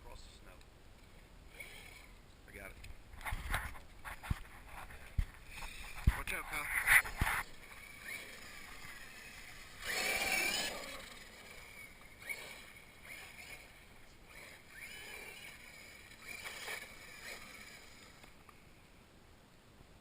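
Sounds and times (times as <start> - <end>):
toy truck motor and tyres: 1.0 - 18.6.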